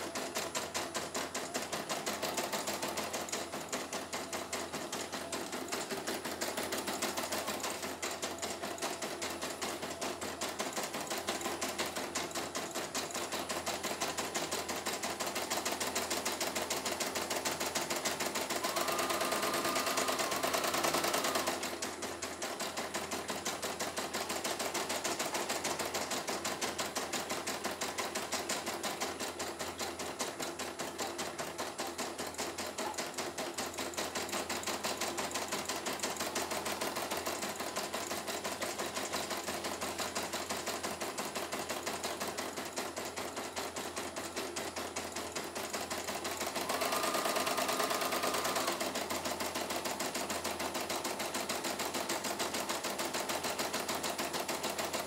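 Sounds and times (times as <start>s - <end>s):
embroidery machine stitching: 0.0s - 55.0s.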